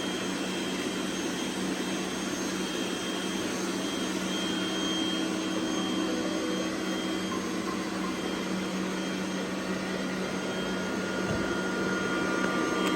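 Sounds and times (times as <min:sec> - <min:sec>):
robot vacuum cleaner whirring: 0:00.0 - 0:12.9.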